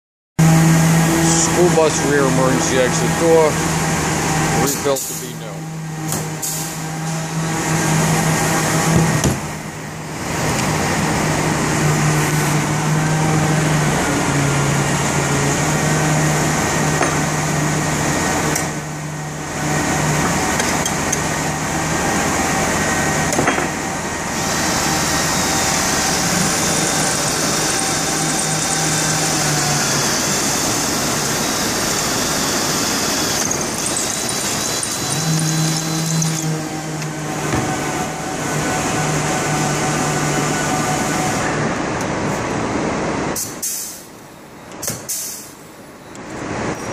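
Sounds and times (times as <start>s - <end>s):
machine motor hum: 0.4s - 41.4s.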